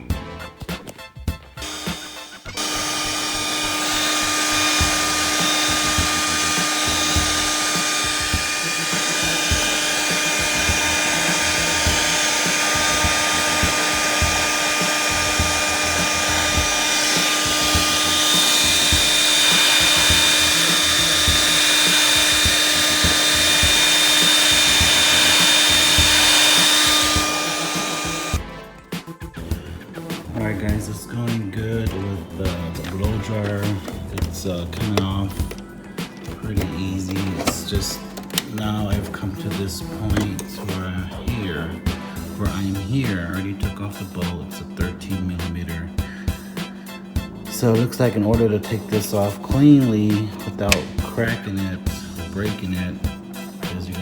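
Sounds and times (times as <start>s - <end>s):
hair dryer running: 1.6s - 28.4s, 32.5s - 42.8s, 46.0s - 54.0s.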